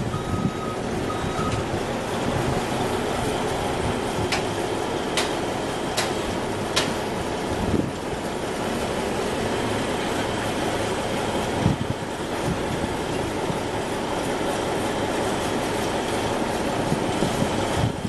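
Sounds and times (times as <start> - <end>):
heavy diesel equipment running: 0.0 - 18.0.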